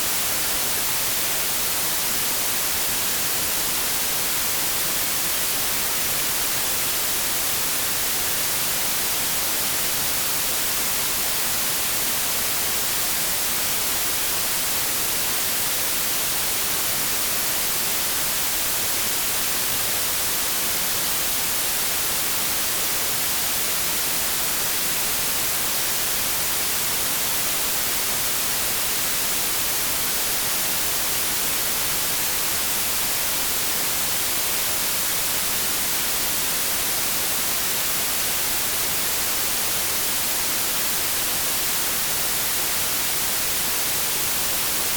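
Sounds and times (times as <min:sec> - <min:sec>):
bright white noise hiss: 0:00.0 - 0:44.9.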